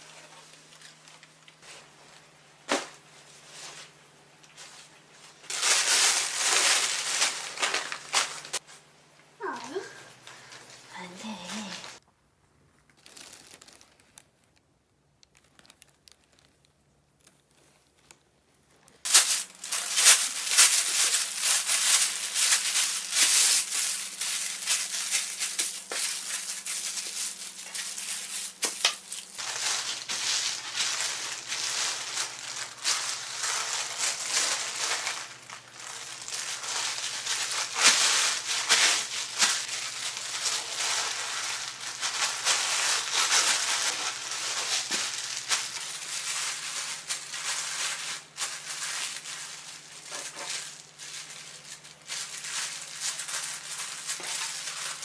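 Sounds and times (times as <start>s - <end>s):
faint steady hum: 0.0s - 55.0s
crinkling and rattling handling: 0.2s - 8.7s, 12.7s - 55.0s.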